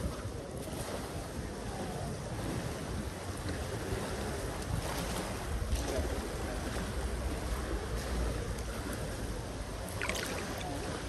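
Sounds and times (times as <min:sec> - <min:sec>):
water lapping and splashing: 0:00.0 - 0:11.0.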